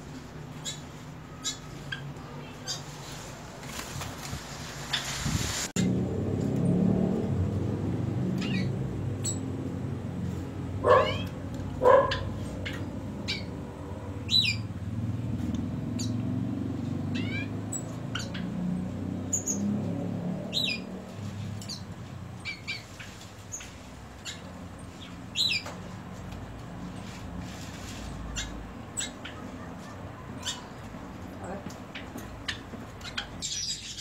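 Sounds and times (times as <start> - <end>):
caged songbirds chirping: 0.0 - 34.0.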